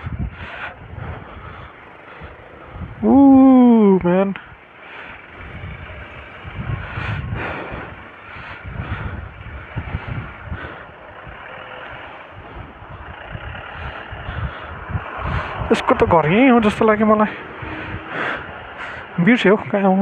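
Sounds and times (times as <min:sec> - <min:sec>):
motorcycle engine running: 0:00.0 - 0:19.4.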